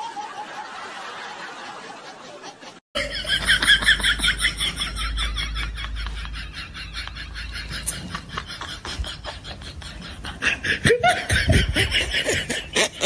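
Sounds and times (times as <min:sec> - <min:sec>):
fast high-pitched laugh: 0:00.0 - 0:13.0.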